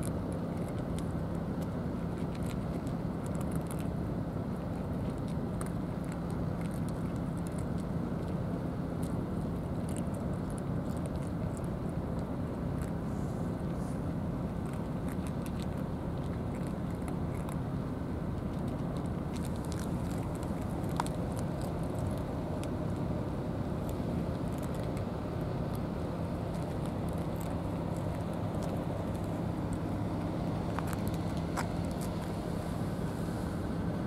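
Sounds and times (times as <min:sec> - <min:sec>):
cats crunching food: 0:00.0 - 0:34.0.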